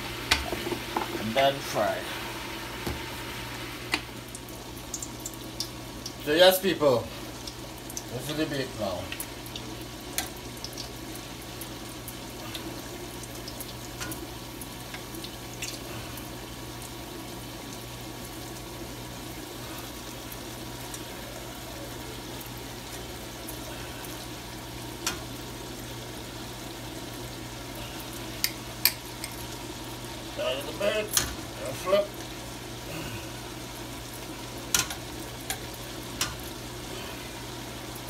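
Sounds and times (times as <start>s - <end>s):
dough sizzling in oil: 0.0s - 38.0s.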